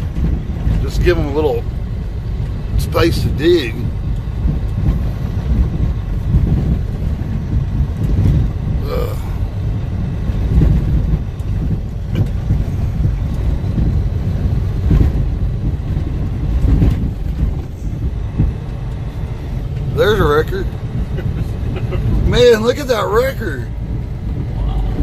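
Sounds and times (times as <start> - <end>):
truck driving rumble: 0.0 - 25.0.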